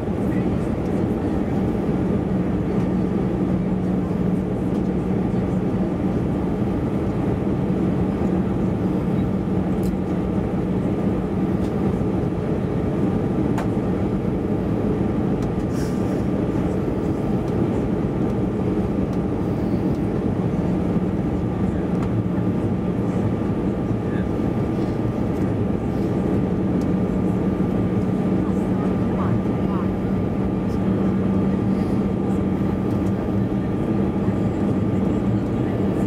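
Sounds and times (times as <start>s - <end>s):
jet engine noise: 0.0s - 36.0s.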